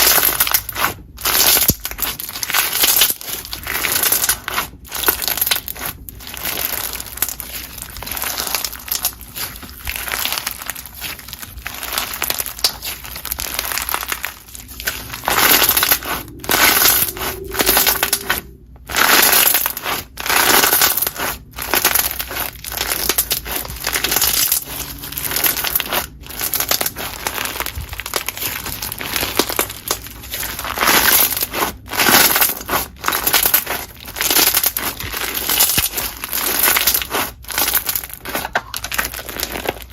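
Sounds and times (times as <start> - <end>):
hands squeezing crackling slime: 0.0 - 39.9.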